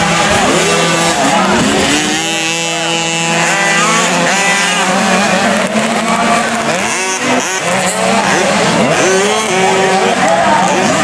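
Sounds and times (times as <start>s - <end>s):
two-stroke motocross bikes revving: 0.0s - 11.0s.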